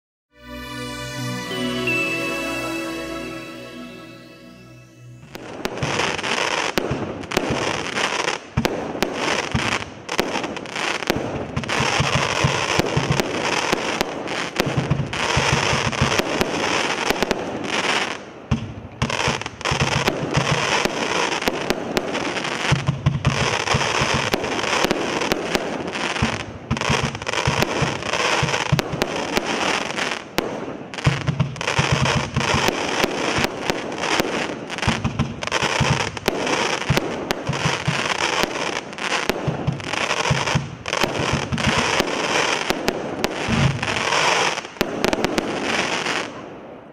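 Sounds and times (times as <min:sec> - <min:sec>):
firework barrage with crackle: 0:05.3 - 0:46.9.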